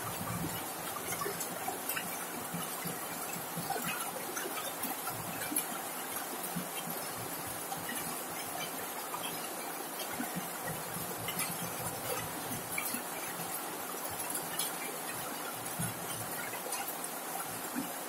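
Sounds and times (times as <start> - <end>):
heavy rain on metal roof: 0.0 - 18.0.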